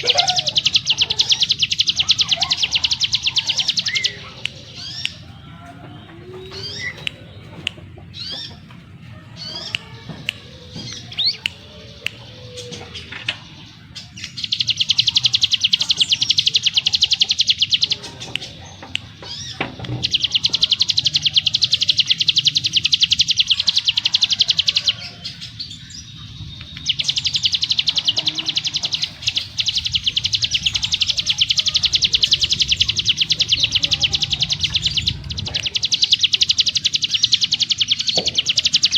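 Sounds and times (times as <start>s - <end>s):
bird chirps and trills: 0.0s - 38.9s
faint low hum: 0.0s - 38.9s.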